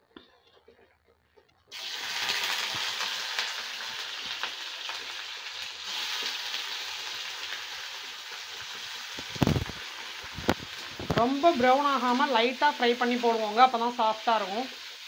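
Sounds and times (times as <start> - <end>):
food sizzling in hot oil: 1.7 - 15.0.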